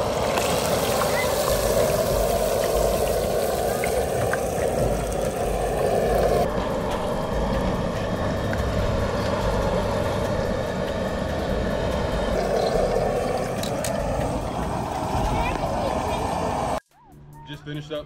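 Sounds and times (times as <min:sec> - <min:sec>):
propane burner roaring: 0:00.0 - 0:16.8.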